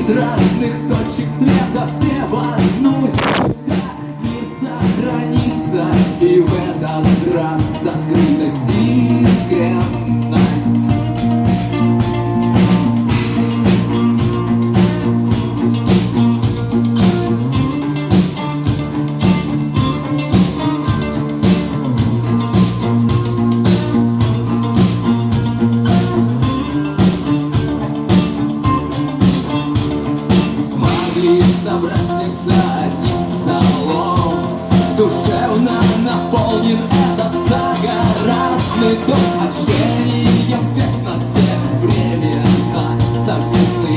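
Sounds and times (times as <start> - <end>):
drum kit beat: 0.0 - 43.9
electric guitar: 0.0 - 43.9
rock band playing live: 0.0 - 43.9
sustained bass notes: 0.0 - 43.9.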